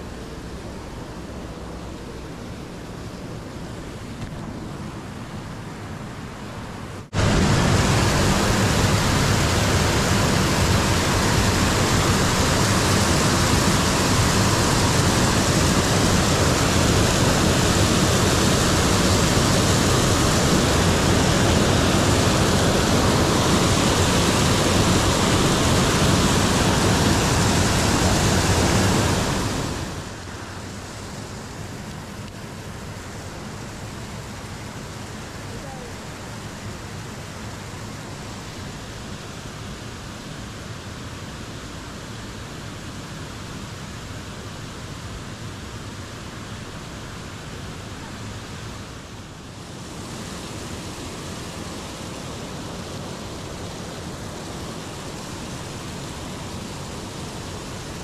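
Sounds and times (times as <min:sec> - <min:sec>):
water rushing over a weir: 0:00.0 - 0:58.0.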